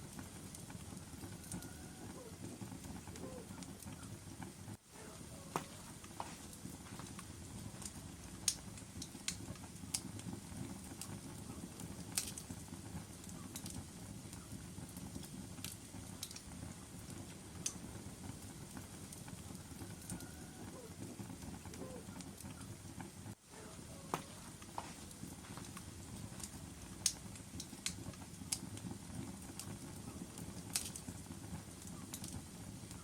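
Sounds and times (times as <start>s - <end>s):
burning logs rumbling: 0.0s - 33.0s
fire crackling and popping: 0.0s - 33.0s.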